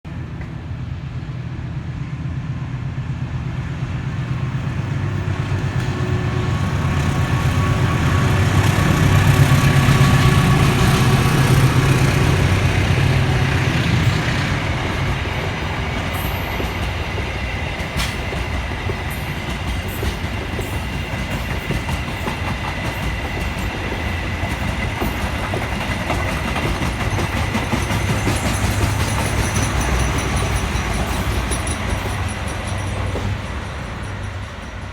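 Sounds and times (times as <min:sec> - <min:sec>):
train wheels rumbling on rails: 0:00.1 - 0:34.9.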